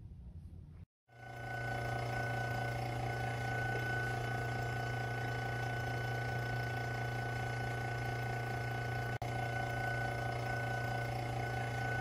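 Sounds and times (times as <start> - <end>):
vacuum pump humming: 1.1 - 12.0.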